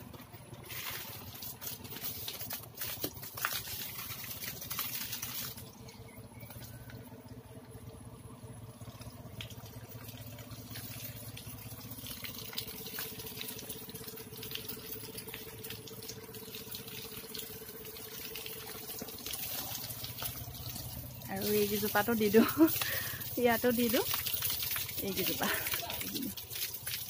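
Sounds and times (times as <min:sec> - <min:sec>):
hose water spraying: 0:00.0 - 0:06.8, 0:08.7 - 0:27.0
faint steady hum: 0:00.0 - 0:26.8.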